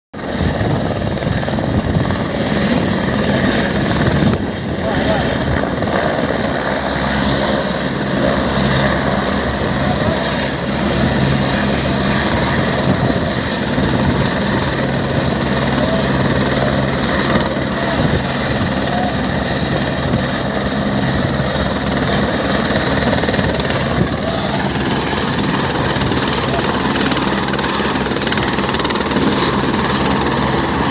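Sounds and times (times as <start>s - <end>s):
helicopter rotor chopping: 0.2s - 30.9s.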